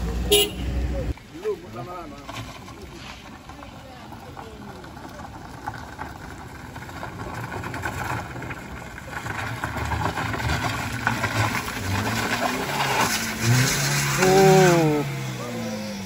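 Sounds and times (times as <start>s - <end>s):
car engine working hard: 0.0s - 16.0s
tyres on wet road: 0.0s - 16.0s.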